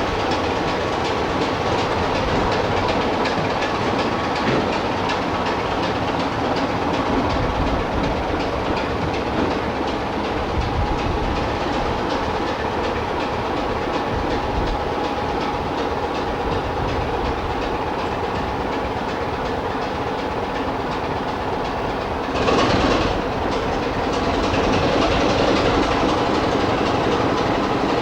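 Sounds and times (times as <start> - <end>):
train rumble: 0.0 - 28.0
train wheels clickety-clack: 0.0 - 28.0.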